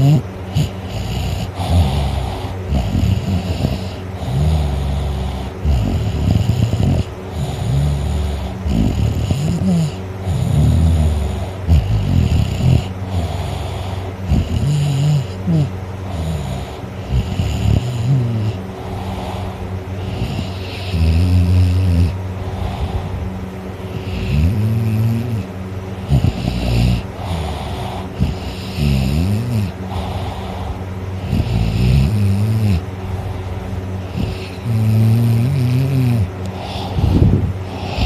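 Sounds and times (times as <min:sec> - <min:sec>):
person snoring: 0:00.0 - 0:23.2, 0:23.9 - 0:38.0.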